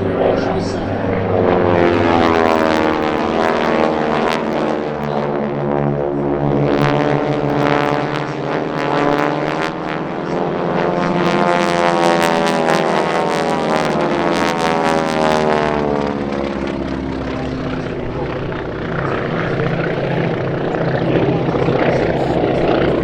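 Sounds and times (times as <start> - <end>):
propeller aircraft flying past: 0.0 - 23.0.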